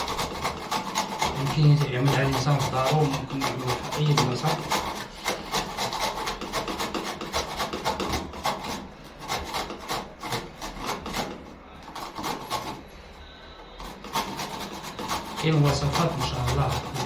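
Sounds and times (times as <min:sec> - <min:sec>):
turnip grated on hand grater: 0:00.0 - 0:13.0, 0:13.7 - 0:17.0.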